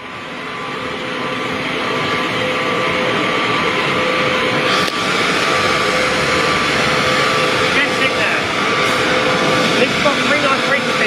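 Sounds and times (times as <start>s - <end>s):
bus engine and road noise: 0.0s - 11.0s
faint steady whine: 0.0s - 11.0s.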